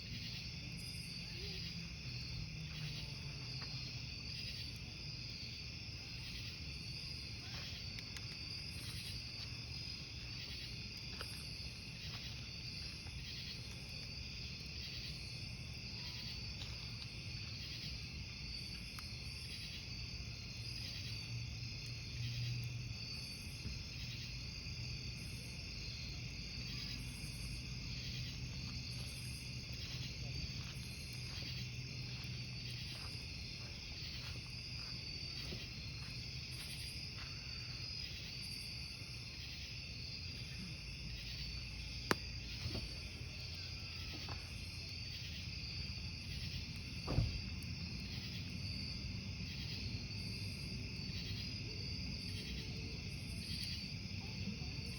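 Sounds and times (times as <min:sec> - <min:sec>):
campfire crackle: 0:00.0 - 0:54.9
crickets chirping: 0:00.0 - 0:54.9.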